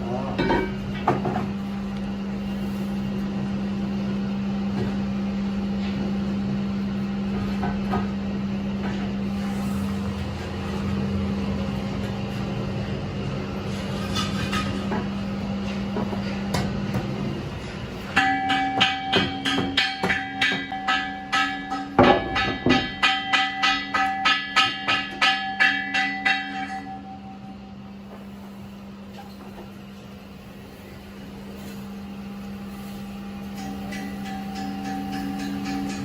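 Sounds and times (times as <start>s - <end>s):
workshop machine humming: 0.0s - 36.0s.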